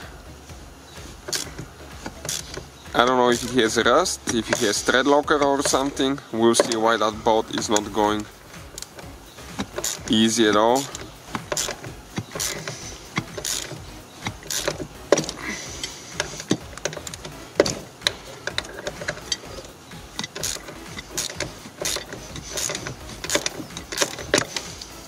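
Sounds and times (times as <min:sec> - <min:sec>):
hand ratchet clicking: 0:00.9 - 0:25.0.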